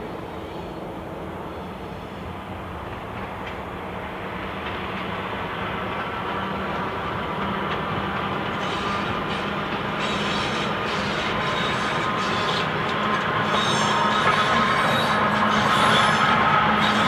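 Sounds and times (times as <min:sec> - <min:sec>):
railcar engine drone: 0:00.0 - 0:17.0
wheels on rail: 0:00.0 - 0:17.0.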